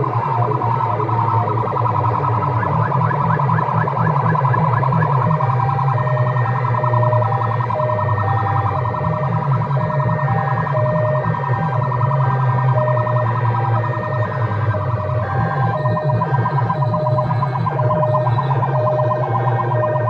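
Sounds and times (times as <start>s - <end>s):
beeping siren-like synth: 0.0s - 20.0s.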